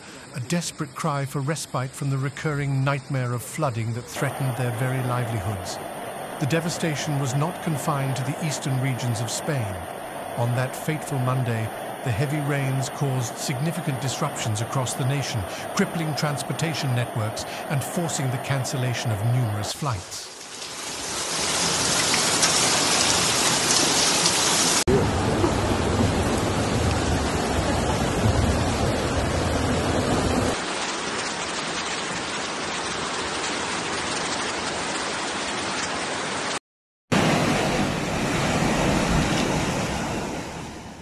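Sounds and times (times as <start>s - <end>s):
floodwater rushing: 3.0s - 36.6s
heavy rain: 3.2s - 36.6s.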